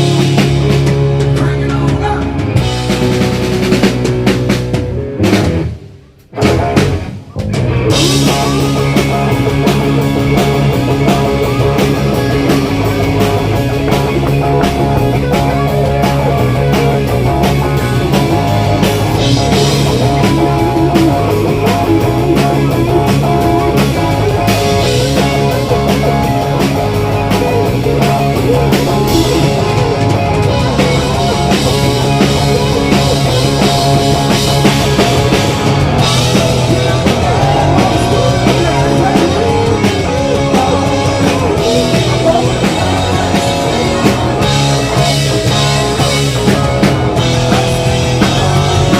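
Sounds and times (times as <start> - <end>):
drum kit: 0.0 - 48.9
electric guitar: 0.0 - 48.9
rock band instrumental: 0.0 - 48.9.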